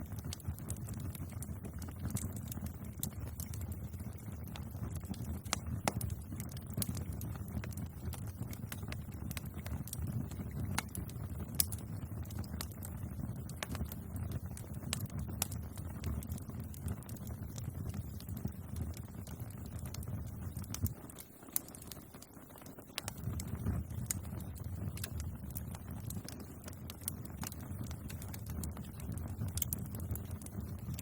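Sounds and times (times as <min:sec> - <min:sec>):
wood fire roaring and crackling: 0:00.0 - 0:31.0.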